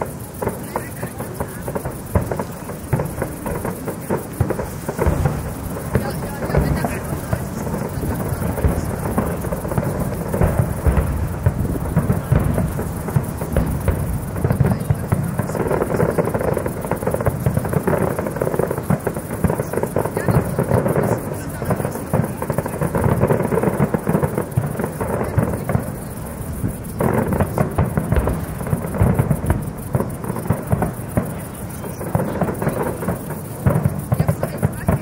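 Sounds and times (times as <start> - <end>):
crowd voices: 0.0 - 35.0
fireworks booming and crackling: 0.0 - 35.0.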